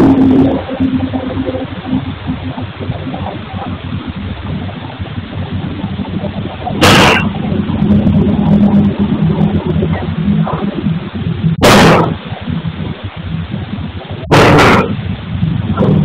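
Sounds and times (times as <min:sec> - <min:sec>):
loud harsh burst: 0:00.0 - 0:16.0
machinery motor drone: 0:00.0 - 0:16.0.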